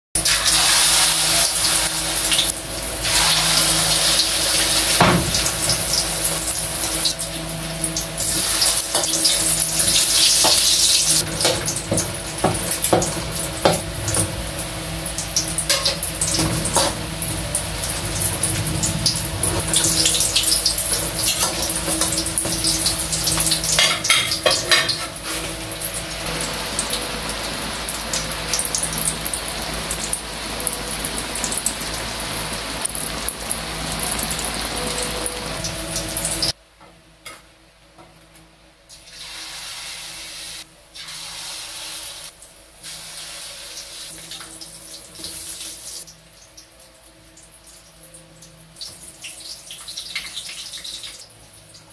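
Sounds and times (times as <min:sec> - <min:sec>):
food sizzling in hot oil: 0:00.2 - 0:36.6, 0:39.0 - 0:46.7, 0:47.4 - 0:51.9.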